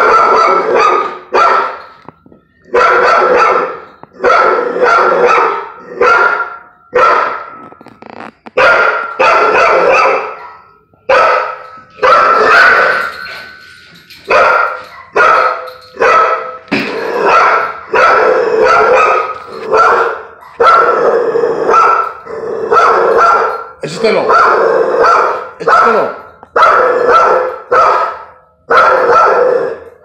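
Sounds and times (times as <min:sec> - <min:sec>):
dog barking: 0:00.0 - 0:01.8, 0:02.7 - 0:07.6, 0:08.6 - 0:13.1, 0:14.3 - 0:16.6, 0:17.2 - 0:21.1, 0:21.7 - 0:22.1, 0:22.7 - 0:23.6, 0:24.2 - 0:29.8.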